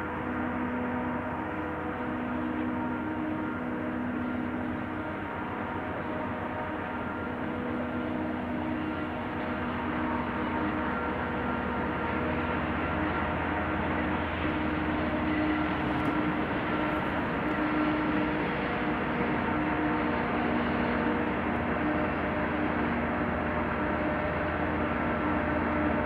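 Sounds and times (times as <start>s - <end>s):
diesel locomotive drone: 0.0s - 26.0s.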